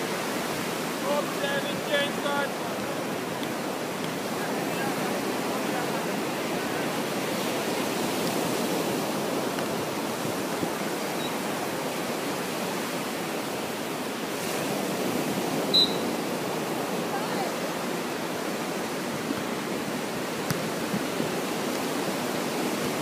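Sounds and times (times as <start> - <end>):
sea surf: 0.0 - 23.0.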